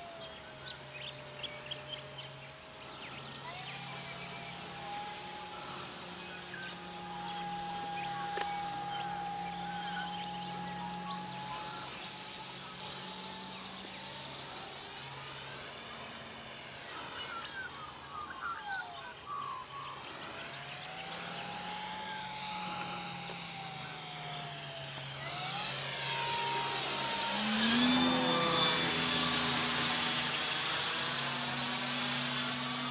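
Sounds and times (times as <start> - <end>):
model plane motor whining: 0.0 - 32.9
propeller rush: 0.0 - 32.9.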